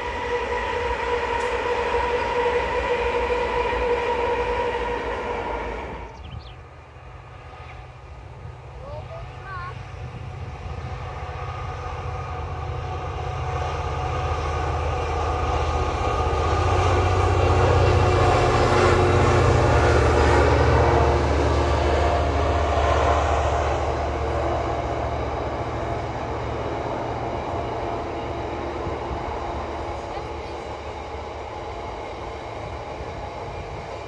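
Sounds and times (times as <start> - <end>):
locomotive low drone: 0.0 - 34.0
freight wagons rumbling by: 4.4 - 34.0.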